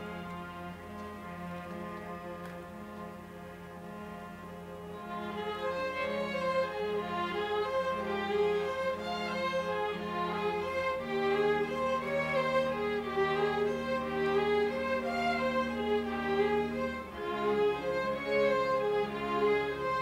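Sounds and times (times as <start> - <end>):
string orchestra classical piece: 0.0 - 20.0
violin melody: 0.0 - 20.0.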